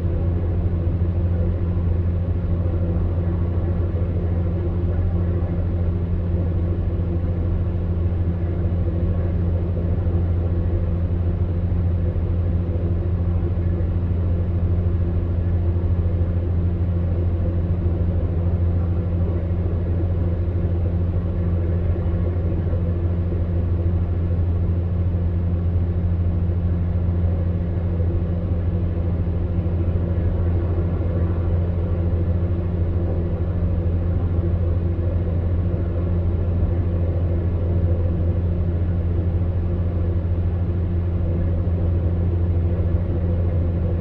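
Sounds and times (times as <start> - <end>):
fan heater humming: 0.0 - 44.0.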